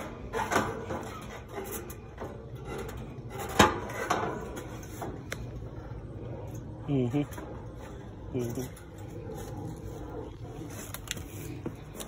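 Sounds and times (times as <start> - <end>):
metal fan grille rattling: 0.0 - 12.0.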